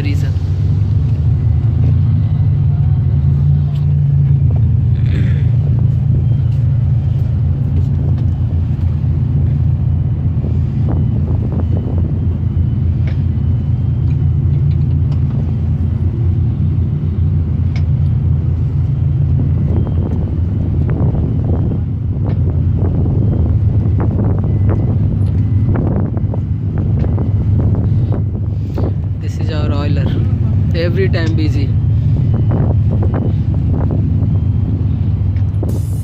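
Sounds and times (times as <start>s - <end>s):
boat diesel engines humming: 0.0s - 36.0s.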